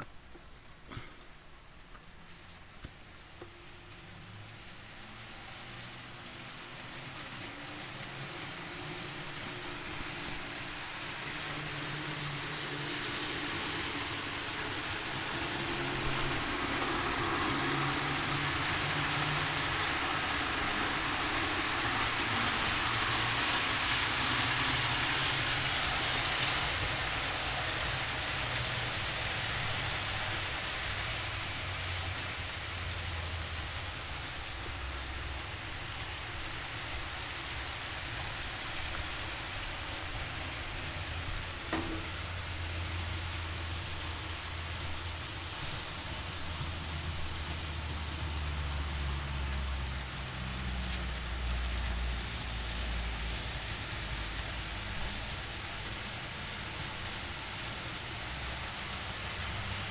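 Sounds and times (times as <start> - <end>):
model train whirring hiss: 0.0 - 59.9.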